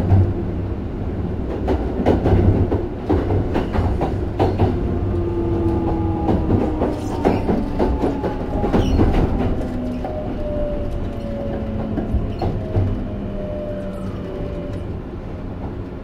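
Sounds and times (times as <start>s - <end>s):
train inverter whining: 0.0s - 16.0s
train running rumble: 0.0s - 16.0s
wheels clacking on rail joints: 1.4s - 16.0s.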